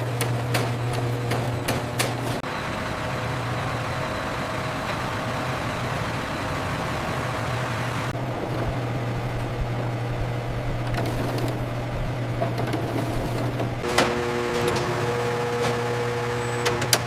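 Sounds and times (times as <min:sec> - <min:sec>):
factory machinery hum and hiss: 0:00.0 - 0:17.0.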